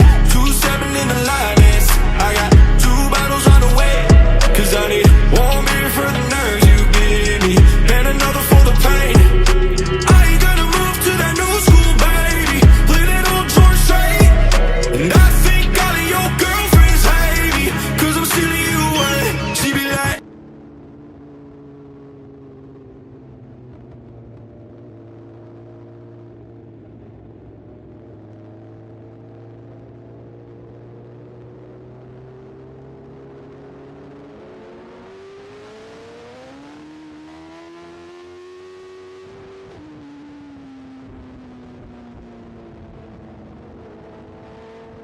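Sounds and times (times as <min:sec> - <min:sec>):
motorcycle engine revving: 0:00.0 - 0:41.2.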